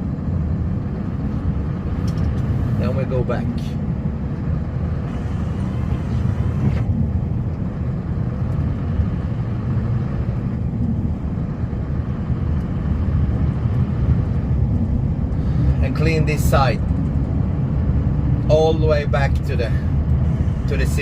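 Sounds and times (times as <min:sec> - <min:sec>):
snowplow engine rumbling: 0:00.0 - 0:21.0.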